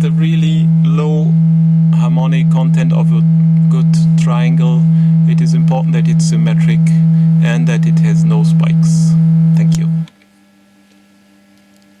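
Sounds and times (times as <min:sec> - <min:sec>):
low synthesizer triangle tone: 0:00.0 - 0:10.1
faint hum: 0:00.0 - 0:12.0.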